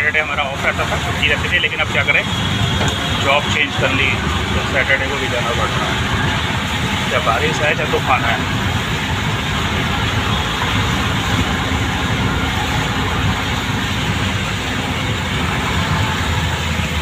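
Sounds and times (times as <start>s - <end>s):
low road rumble: 0.0s - 17.0s
tyres hissing on wet road: 0.0s - 17.0s.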